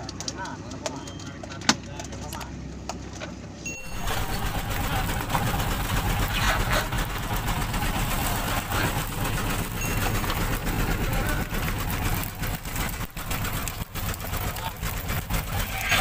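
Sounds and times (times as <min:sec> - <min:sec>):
boat engine droning: 0:00.0 - 0:16.0
constant rushing noise: 0:00.0 - 0:16.0.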